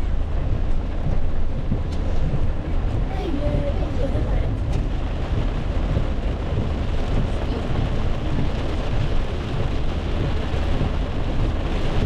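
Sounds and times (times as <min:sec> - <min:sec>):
car rumbling on wet road: 0:00.0 - 0:12.0
heavy rain on car roof: 0:00.0 - 0:12.0.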